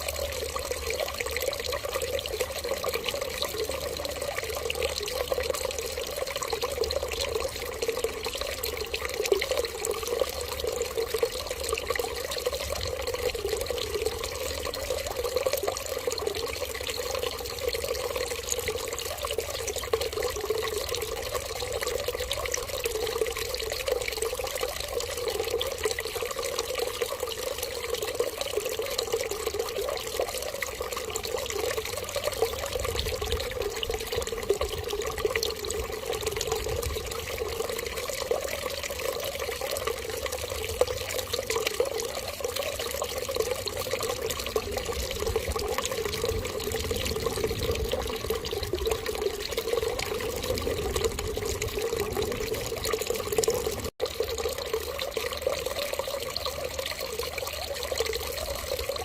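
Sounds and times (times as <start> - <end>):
running water stream: 0.0 - 59.0.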